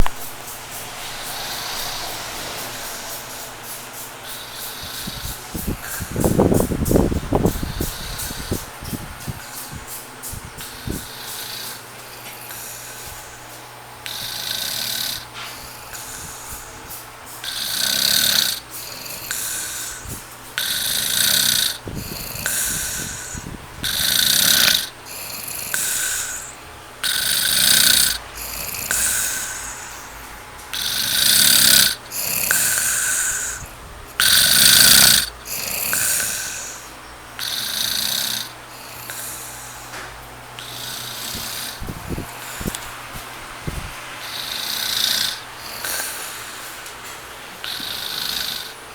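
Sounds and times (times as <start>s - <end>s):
man snoring: 1.0s - 9.9s, 10.6s - 13.4s, 14.0s - 40.0s, 40.6s - 42.9s, 43.8s - 46.9s, 47.5s - 48.9s.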